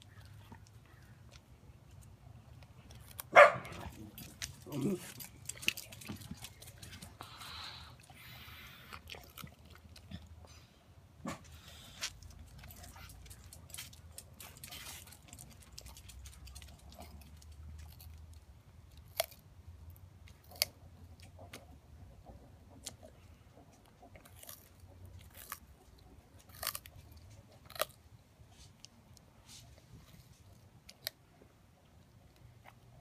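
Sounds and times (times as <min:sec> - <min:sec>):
tortoise crunching carrots: 0:00.0 - 0:33.0.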